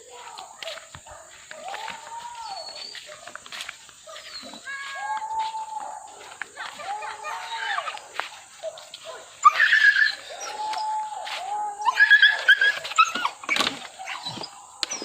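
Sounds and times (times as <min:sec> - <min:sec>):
dogs baying: 0:00.0 - 0:15.0
dogs yelping: 0:00.0 - 0:15.0.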